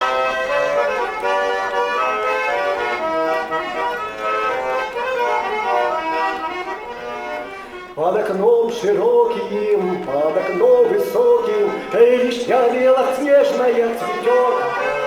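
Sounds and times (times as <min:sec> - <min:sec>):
button accordion melody: 0:00.0 - 0:15.0.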